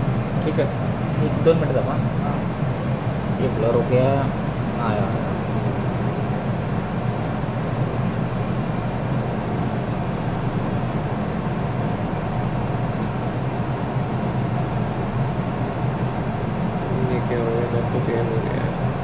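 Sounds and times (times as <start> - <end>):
cooling fans droning: 0.0 - 19.0.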